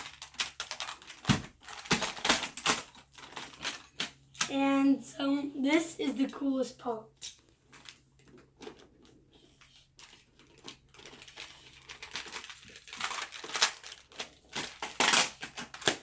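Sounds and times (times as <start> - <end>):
packaging rustling and crinkling: 0.0 - 4.6, 7.3 - 16.0.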